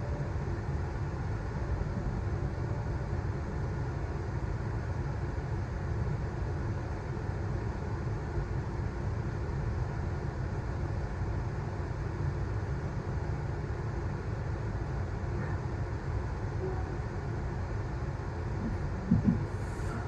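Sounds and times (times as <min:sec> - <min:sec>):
electric train rumbling on track: 0:00.0 - 0:20.0.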